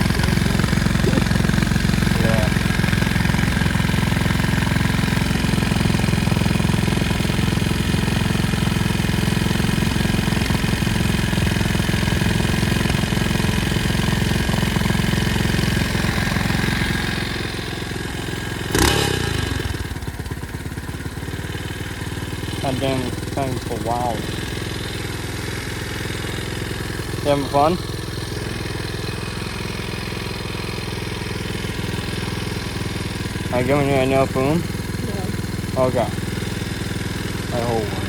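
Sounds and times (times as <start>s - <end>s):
pit bike engine running: 0.0s - 38.0s.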